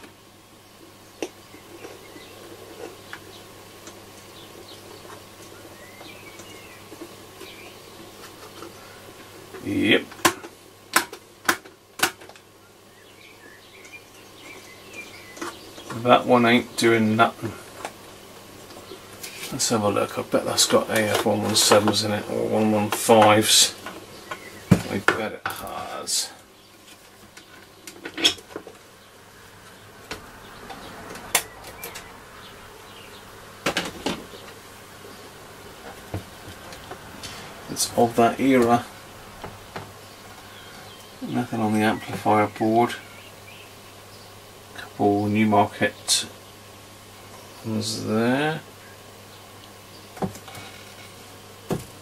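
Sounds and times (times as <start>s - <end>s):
faint steady buzz: 0.0s - 52.0s
faint radio hum: 0.8s - 52.0s.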